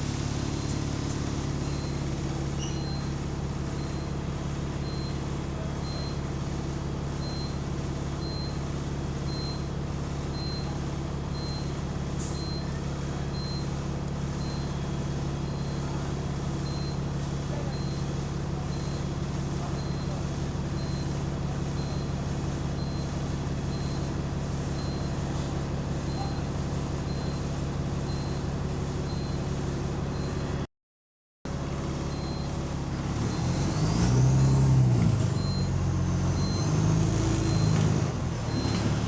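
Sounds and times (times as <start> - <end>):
diesel bus engine idling: 0.0 - 30.6, 31.5 - 39.0.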